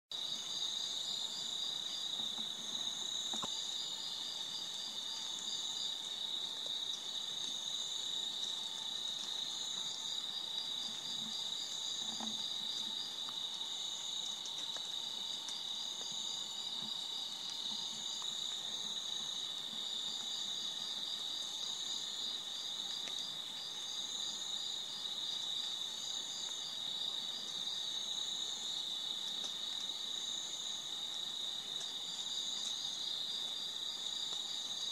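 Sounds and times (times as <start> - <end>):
high insect call: 0.1 - 34.9
insect pulsing chirp: 0.1 - 34.9
insects trilling: 0.1 - 34.9.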